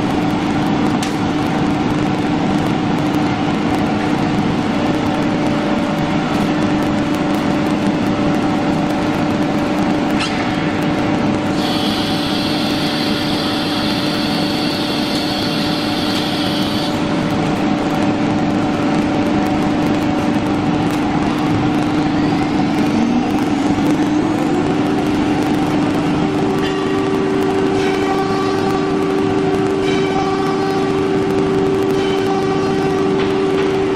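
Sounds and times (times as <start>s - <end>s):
high machine whine: 0.0s - 33.9s.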